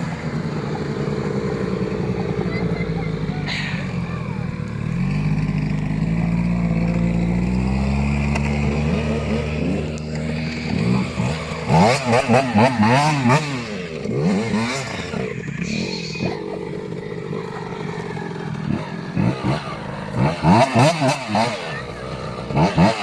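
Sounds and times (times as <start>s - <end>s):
two-stroke dirt bike engine revving: 0.0s - 23.0s.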